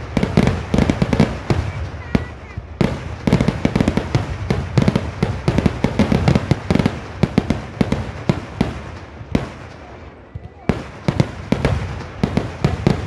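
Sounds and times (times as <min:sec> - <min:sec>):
rapid loud firework bangs: 0:00.0 - 0:13.0.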